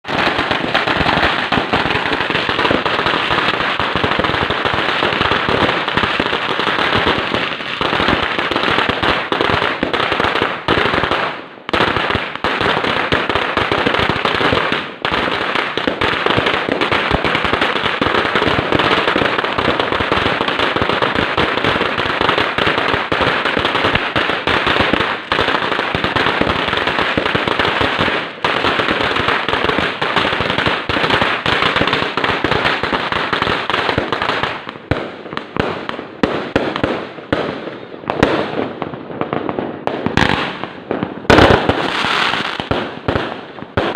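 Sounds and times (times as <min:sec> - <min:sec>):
firecrackers going off: 0:00.0 - 0:43.9.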